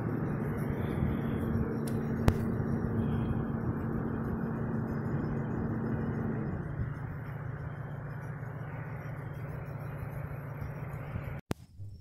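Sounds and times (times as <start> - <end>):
vehicle engine idling: 0.0 - 11.4.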